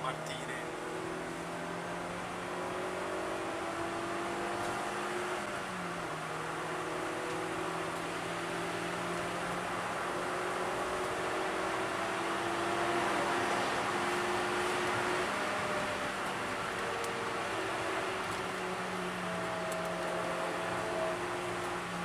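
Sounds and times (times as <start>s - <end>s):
car engine pulling under load: 0.0s - 22.0s
tyre and road noise: 0.0s - 22.0s.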